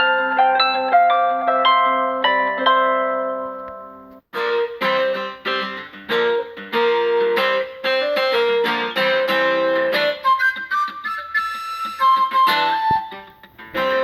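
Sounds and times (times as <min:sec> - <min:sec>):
plucked guitar-like melody: 0:00.0 - 0:14.0.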